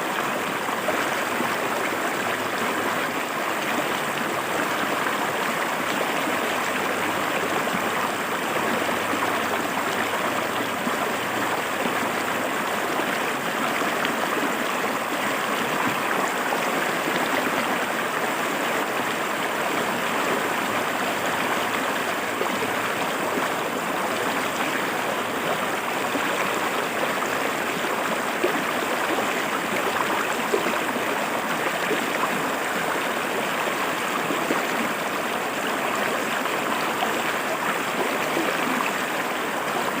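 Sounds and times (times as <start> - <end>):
river water rushing over rocks: 0.0 - 40.0.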